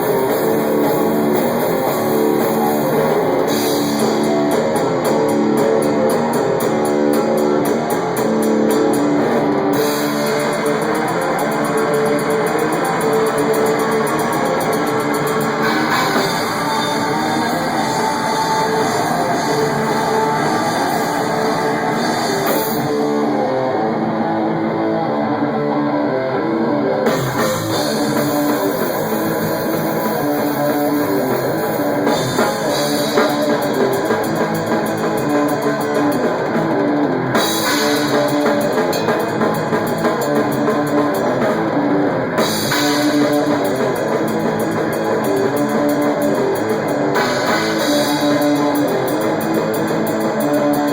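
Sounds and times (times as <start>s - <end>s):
drum kit playing a beat: 0.0s - 23.9s, 27.0s - 50.9s
electric guitar chords: 0.0s - 50.9s.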